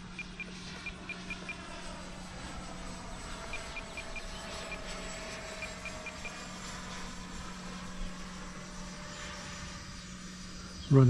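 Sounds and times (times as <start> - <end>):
distant model jet whine: 0.0 - 11.0.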